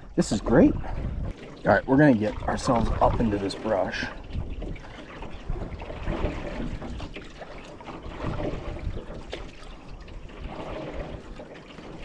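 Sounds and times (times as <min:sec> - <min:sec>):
canoe paddle strokes in water: 0:00.0 - 0:12.0
water splashing and trickling: 0:00.0 - 0:12.0.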